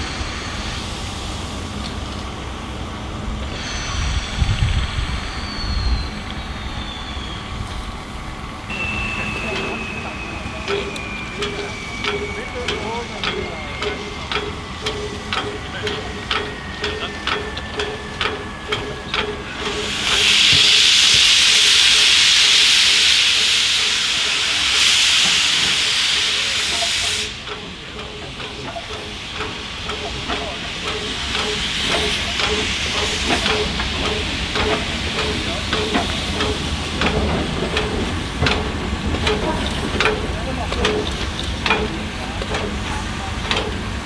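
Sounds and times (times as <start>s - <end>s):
rhythmic locomotive beat with clicks: 0.0s - 44.0s
steam venting hiss: 0.0s - 44.0s.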